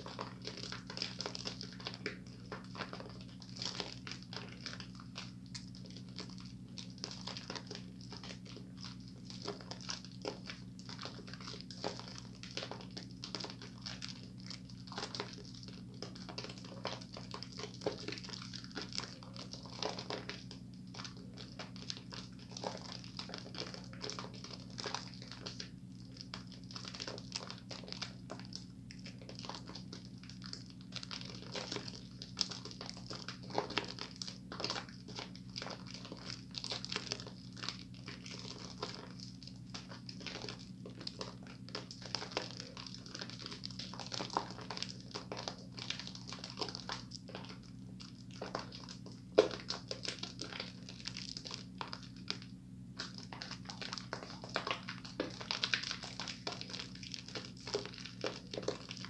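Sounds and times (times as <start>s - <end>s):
soap lather squishing: 0.0s - 59.0s.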